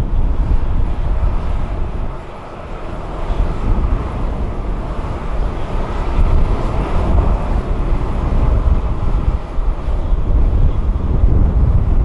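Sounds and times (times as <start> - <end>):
jet engines rumbling: 0.0 - 12.0
wind noise on microphone: 0.0 - 12.0.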